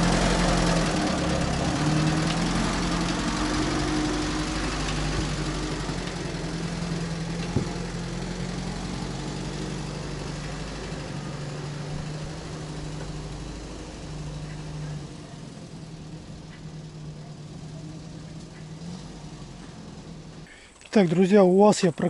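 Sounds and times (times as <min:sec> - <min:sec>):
engine idling: 0:00.0 - 0:21.2.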